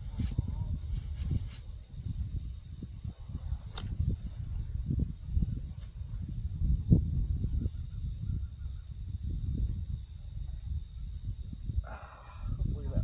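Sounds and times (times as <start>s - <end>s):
high-pitched insect drone: 0.0s - 13.0s
wind on microphone: 0.0s - 13.0s.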